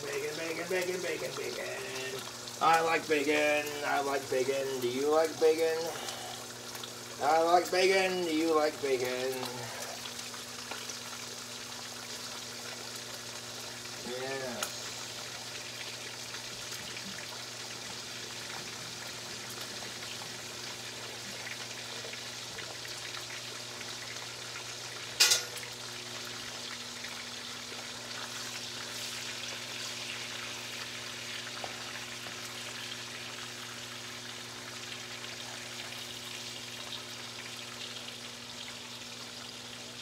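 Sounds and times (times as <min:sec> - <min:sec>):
bacon sizzling in a skillet: 0:00.0 - 0:40.0.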